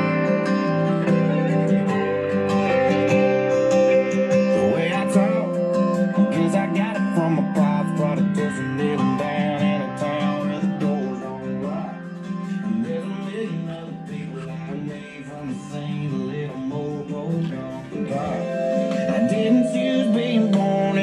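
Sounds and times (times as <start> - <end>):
guitar music through car speakers: 0.0 - 21.0.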